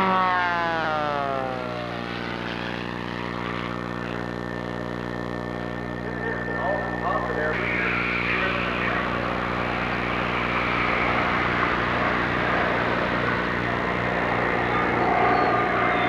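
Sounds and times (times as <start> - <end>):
aircraft engines roaring: 0.0 - 16.0
jet whine: 0.0 - 16.0.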